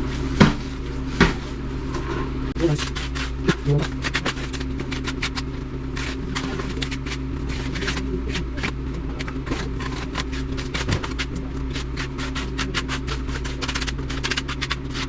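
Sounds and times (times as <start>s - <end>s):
engine running: 0.0s - 15.0s
rapid irregular clattering: 0.0s - 15.0s.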